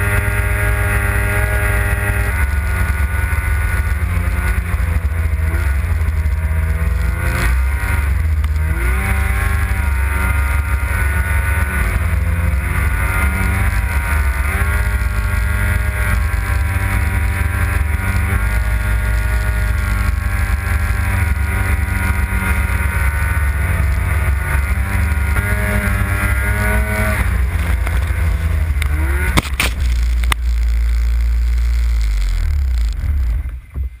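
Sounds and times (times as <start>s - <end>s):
snowmobile engine running hard: 0.0s - 34.0s.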